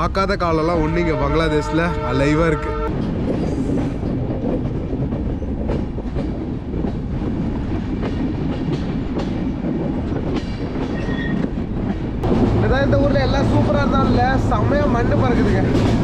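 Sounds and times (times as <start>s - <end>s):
train wheels rumbling on track: 0.0s - 16.0s
rail joint clicks: 2.9s - 16.0s.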